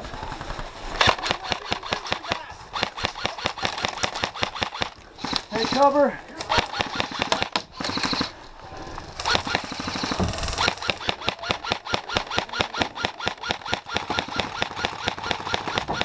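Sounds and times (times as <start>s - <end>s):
airsoft gun full-auto burst: 0.3s - 8.4s, 9.1s - 16.0s.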